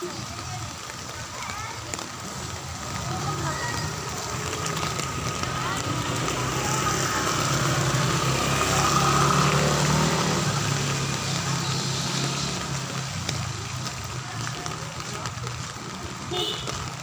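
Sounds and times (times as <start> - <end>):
heavy rain hiss: 0.0 - 17.0
vehicle passing on wet street: 0.0 - 17.0.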